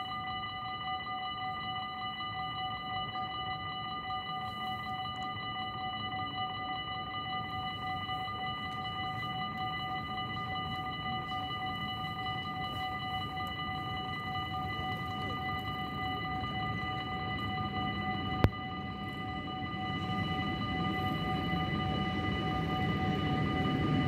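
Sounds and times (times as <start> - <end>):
crossing warning bell ringing: 0.0 - 24.0.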